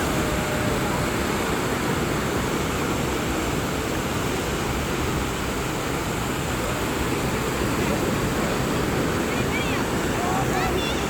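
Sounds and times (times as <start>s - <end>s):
surf washing onto beach: 0.0s - 11.0s.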